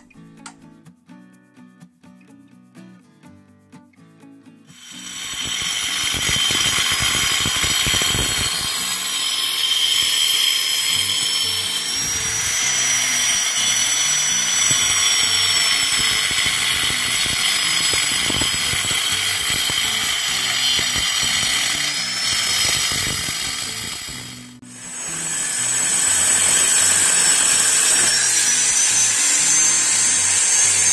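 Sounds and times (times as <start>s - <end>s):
angle grinder cutting concrete: 4.7s - 30.9s.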